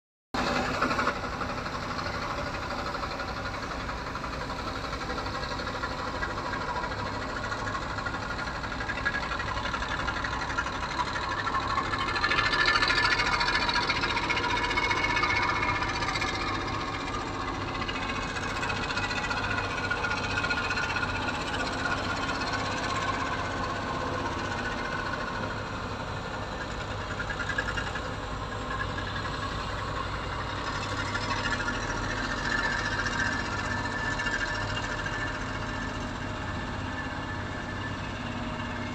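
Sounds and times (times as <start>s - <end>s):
engine rumbling: 0.4s - 38.9s.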